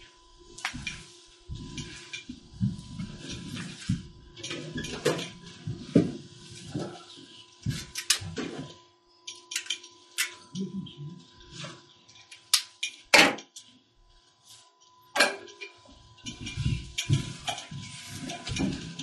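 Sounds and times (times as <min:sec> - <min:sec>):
faint electrical whine: 0:00.0 - 0:19.0.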